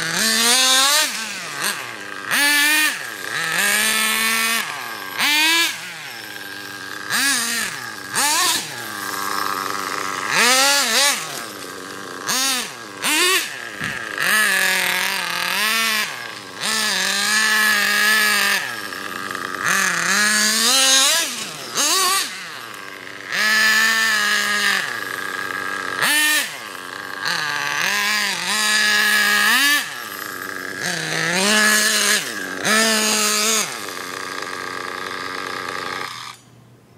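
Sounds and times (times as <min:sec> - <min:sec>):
small nitro engine revving: 0:00.0 - 0:36.7.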